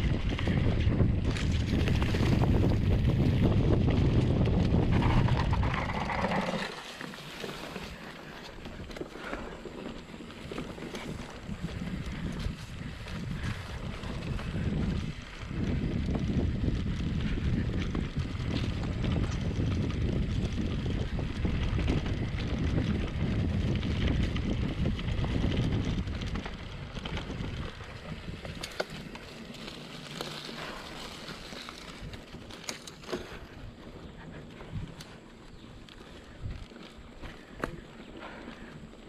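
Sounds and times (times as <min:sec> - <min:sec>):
bike tyres running over trail: 0:00.0 - 0:39.0
wind buffeting microphone: 0:00.0 - 0:39.0.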